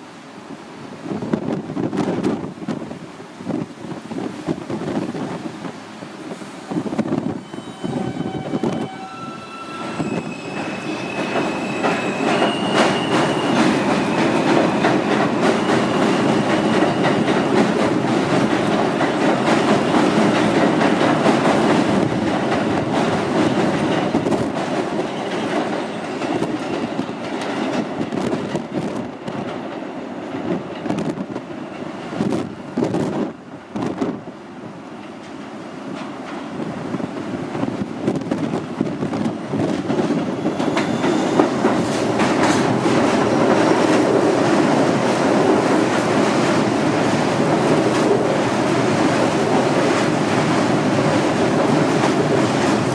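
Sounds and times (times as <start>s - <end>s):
steady train whine: 0.0s - 52.9s
subway train rumbling on rails: 0.0s - 52.9s.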